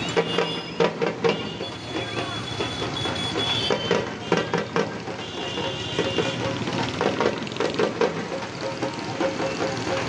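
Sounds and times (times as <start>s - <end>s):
crowd noise: 0.0s - 10.0s
sharp drum beats: 0.0s - 10.0s.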